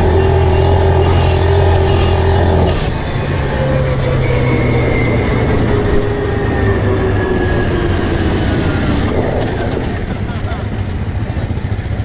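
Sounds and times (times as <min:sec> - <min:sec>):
quad bike engine running: 0:00.0 - 0:12.0
wind and road noise: 0:00.0 - 0:12.0.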